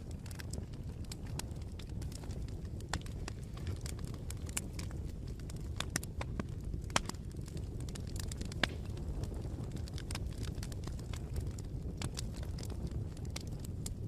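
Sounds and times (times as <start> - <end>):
fire popping and snapping: 0.0 - 14.0
flames rumbling: 0.0 - 14.0.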